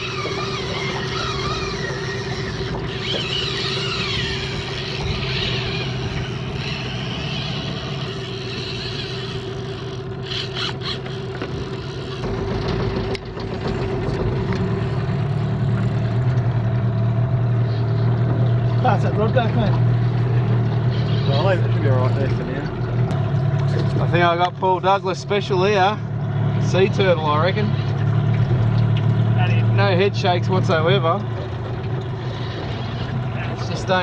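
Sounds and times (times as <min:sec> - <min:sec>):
outboard motor humming: 0:00.0 - 0:34.0.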